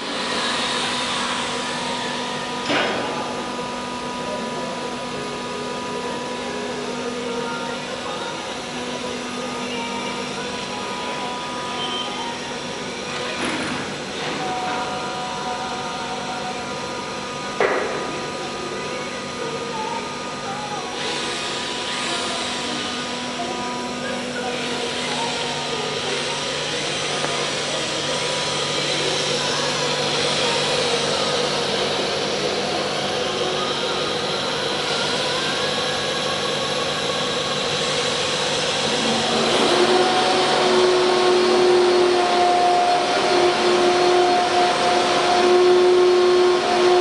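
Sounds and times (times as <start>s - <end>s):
cnc router whirring: 0.0s - 47.0s
machine hum with whining tones: 0.0s - 47.0s.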